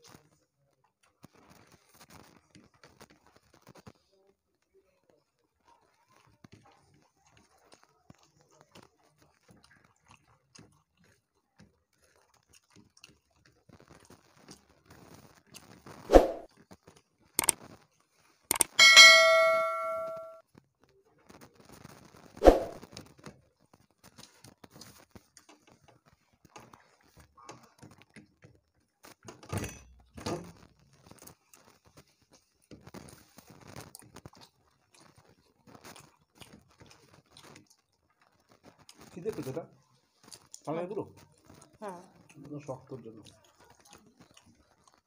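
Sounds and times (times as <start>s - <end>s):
people chewing food: 0.0s - 18.7s, 21.0s - 45.0s.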